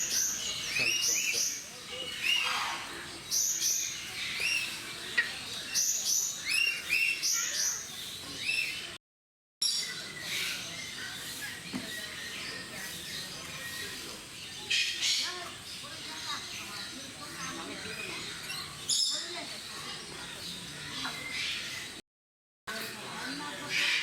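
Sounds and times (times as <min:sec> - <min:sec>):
birds chirping: 0:00.0 - 0:09.0, 0:09.6 - 0:22.0.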